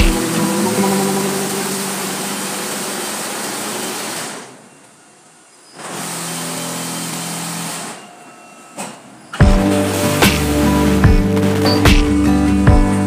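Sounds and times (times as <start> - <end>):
machinery humming with hiss: 0.0 - 11.7.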